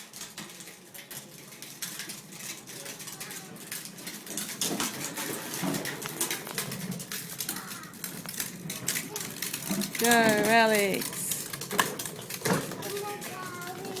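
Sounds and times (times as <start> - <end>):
plastic toy car rattling on floor: 0.0 - 14.0.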